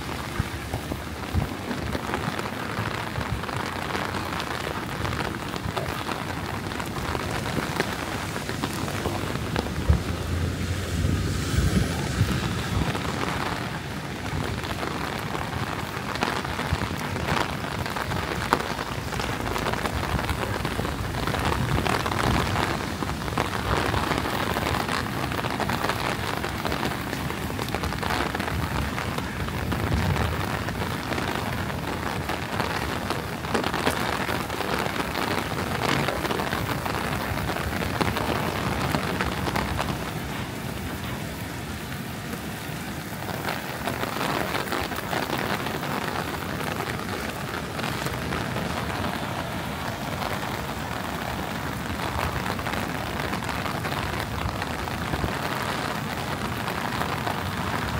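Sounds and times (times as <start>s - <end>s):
heavy rain pattering: 0.0s - 57.9s.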